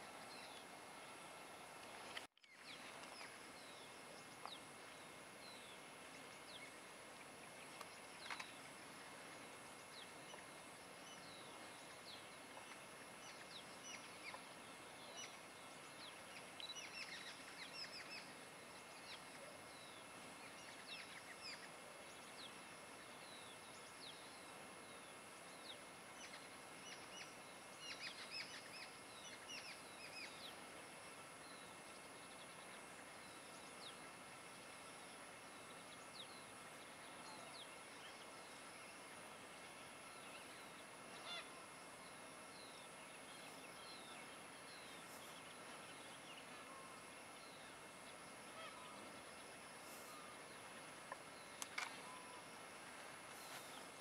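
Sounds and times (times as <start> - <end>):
background hiss: 0.0 - 54.0
faint bird chirps: 2.4 - 54.0.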